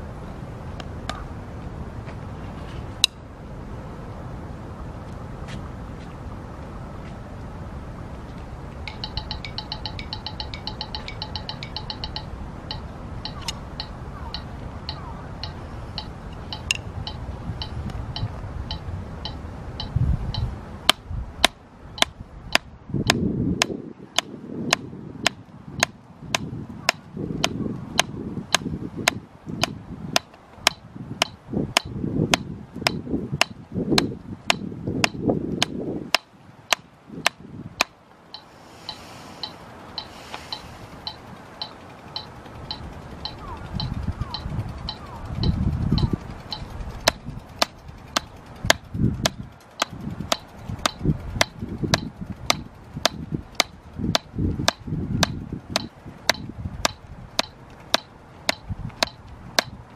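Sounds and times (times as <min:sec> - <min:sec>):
metronome ticking: 0:08.8 - 0:59.8
drumstick tapping practice pad: 0:08.8 - 0:59.9.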